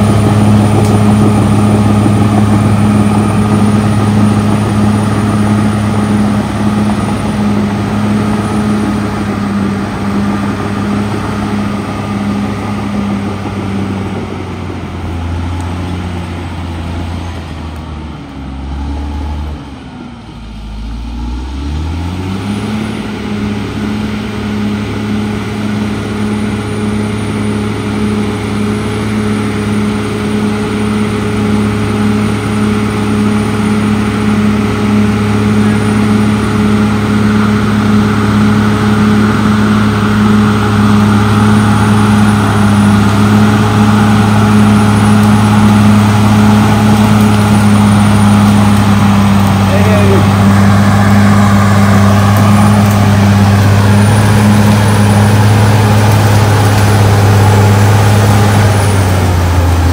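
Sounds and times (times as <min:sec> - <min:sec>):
blade pushing soil: 0:00.0 - 0:19.2, 0:21.4 - 0:59.9
bulldozer diesel engine: 0:00.0 - 0:59.9.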